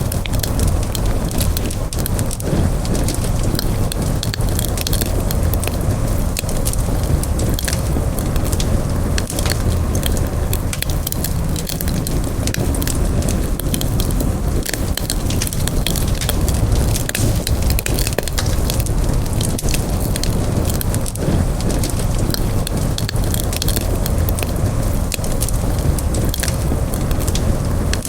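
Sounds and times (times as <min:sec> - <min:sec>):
campfire flames rumbling: 0:00.0 - 0:28.0
fire crackles and pops: 0:00.0 - 0:28.0.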